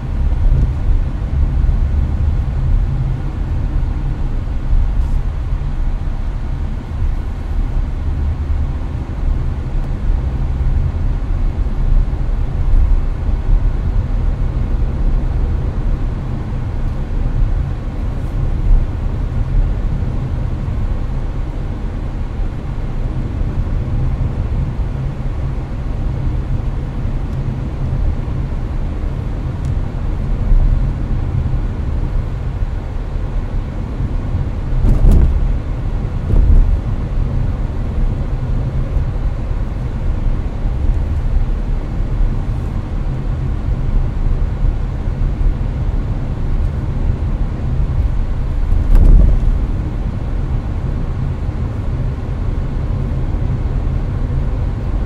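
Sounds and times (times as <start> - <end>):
air conditioner blowing: 0.0 - 55.0
road and tyre rumble: 0.0 - 55.0.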